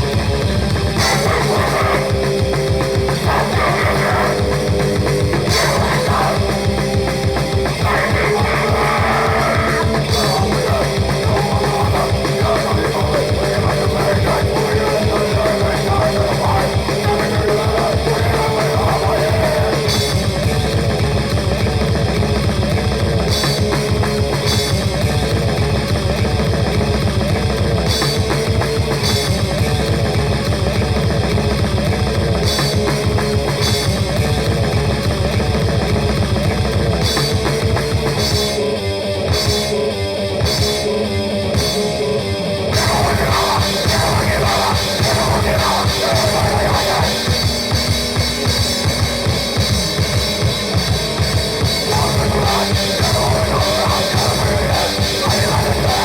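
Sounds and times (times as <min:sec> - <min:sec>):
fast pounding drums: 0:00.0 - 0:42.0, 0:42.7 - 0:56.0
distorted guitars and bass: 0:00.0 - 0:56.0.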